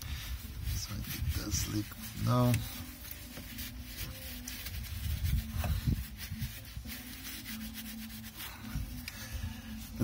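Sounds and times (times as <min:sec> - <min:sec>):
rag rubbing on metal: 0:00.1 - 0:09.1.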